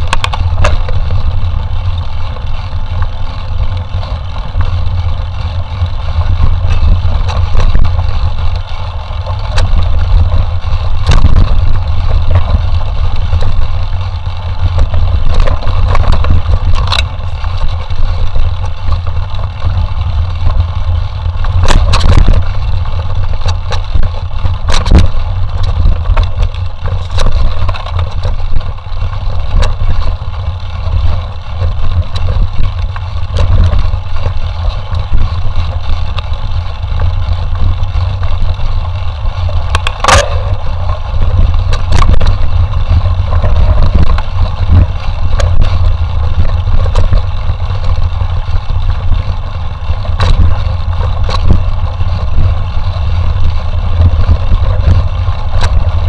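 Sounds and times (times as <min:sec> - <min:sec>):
bike knocks and rattles: 0:00.0 - 0:56.0
wind rumble on microphone: 0:00.0 - 0:56.0.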